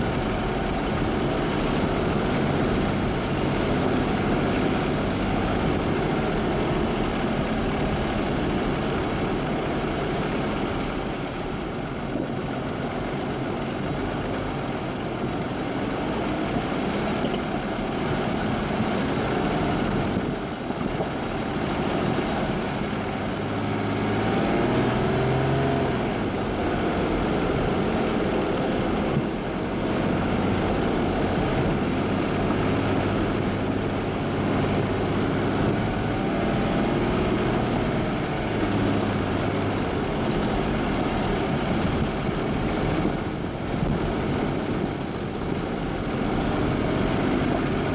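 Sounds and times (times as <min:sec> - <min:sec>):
car engine running: 0:00.0 - 0:47.9
road noise rumble: 0:00.0 - 0:47.9.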